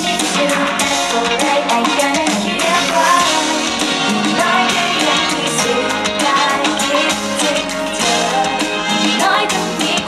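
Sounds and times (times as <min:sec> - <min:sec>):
bass guitar: 0:00.0 - 0:10.0
drum kit: 0:00.0 - 0:10.0
electric guitar: 0:00.0 - 0:10.0
woman singing: 0:00.0 - 0:10.0.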